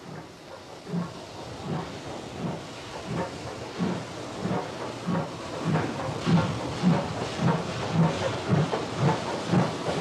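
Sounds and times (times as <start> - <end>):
steam hissing: 0.0 - 10.0
steam locomotive chuffing: 0.0 - 10.0.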